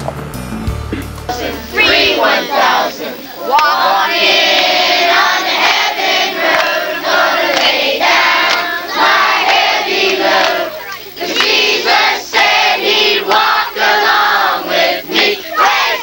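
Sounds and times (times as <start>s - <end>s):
group of people singing: 1.3s - 16.0s.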